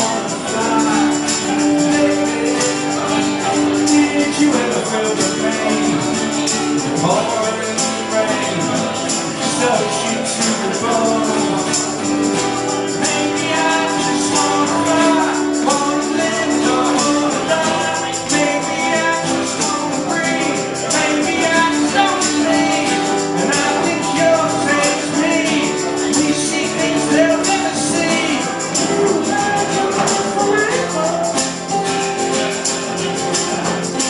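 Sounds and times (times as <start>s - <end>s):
drums beat: 0.0s - 34.0s
live rock band: 0.0s - 34.0s
person singing: 0.0s - 34.0s.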